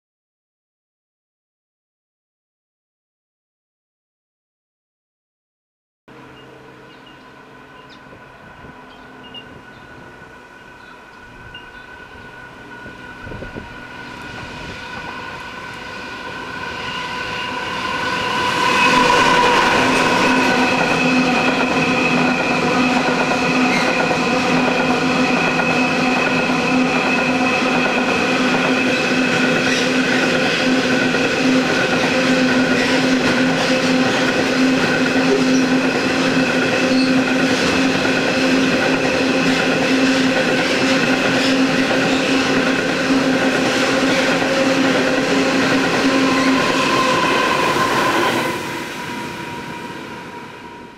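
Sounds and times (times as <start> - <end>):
locomotive hum: 6.1 - 50.9
train wheel and wagon noise: 6.1 - 50.9.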